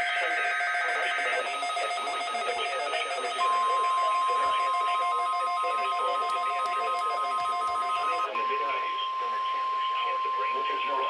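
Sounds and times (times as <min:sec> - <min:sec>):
faint pulsing beep: 0:00.0 - 0:11.0
steady alarm tone: 0:00.0 - 0:11.0
two-tone data warble: 0:00.0 - 0:11.0.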